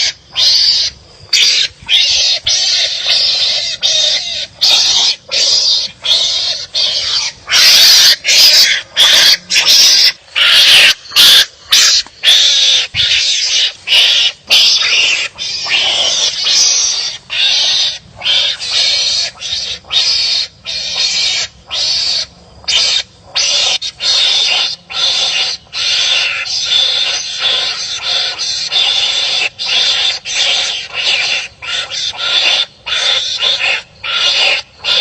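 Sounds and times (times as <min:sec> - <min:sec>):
raspy animal calls: 0:00.0 - 0:35.0.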